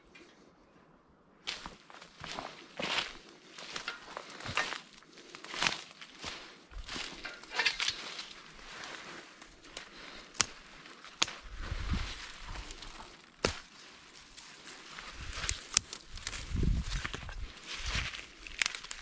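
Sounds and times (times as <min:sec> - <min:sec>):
rustling handling noise: 0:01.5 - 0:19.0.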